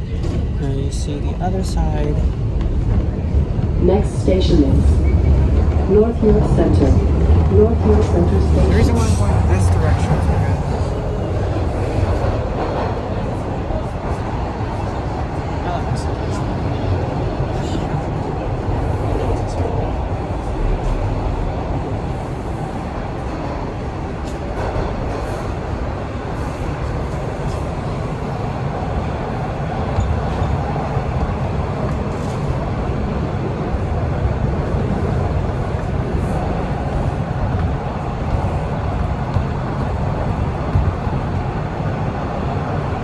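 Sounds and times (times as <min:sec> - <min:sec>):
subway train rumbling: 0:00.0 - 0:43.0.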